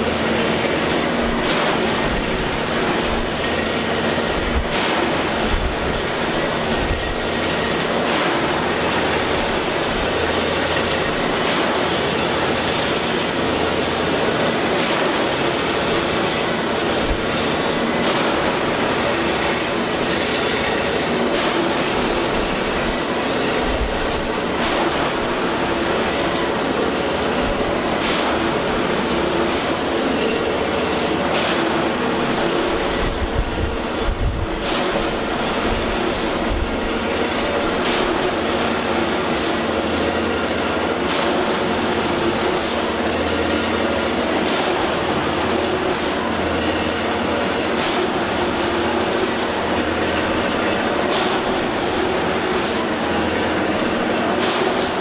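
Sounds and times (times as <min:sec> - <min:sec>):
track machinery noise: 0:00.0 - 0:55.0.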